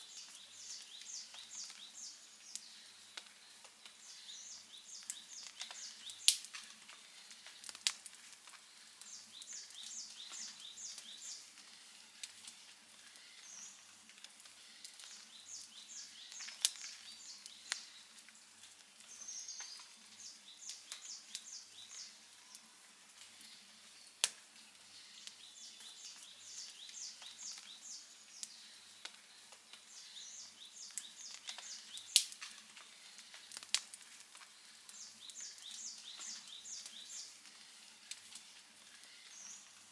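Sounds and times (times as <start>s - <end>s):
wood fire crackling: 0.0s - 39.9s
fire popping: 0.1s - 22.0s, 23.1s - 39.9s.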